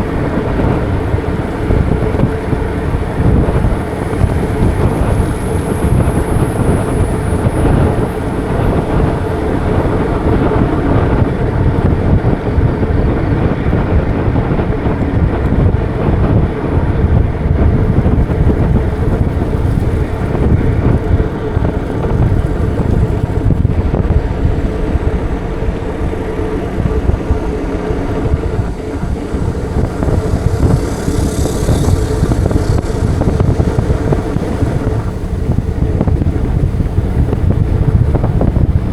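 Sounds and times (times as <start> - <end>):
bike road noise: 0.0 - 38.9
faint steady hum: 0.0 - 38.9
wind rumbling on microphone: 0.0 - 38.9.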